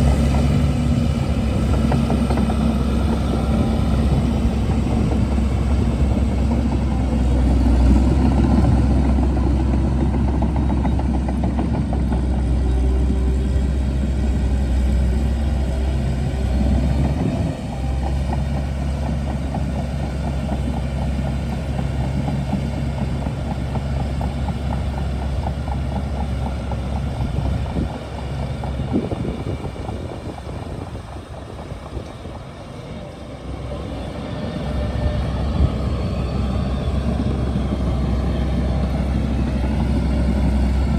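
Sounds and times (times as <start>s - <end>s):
bulldozer diesel engine drone: 0.0s - 40.9s.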